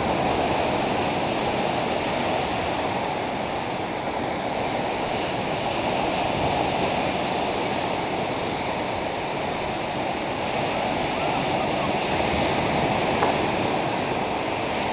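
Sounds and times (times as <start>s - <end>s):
surf breaking on a sandy beach: 0.0s - 14.9s.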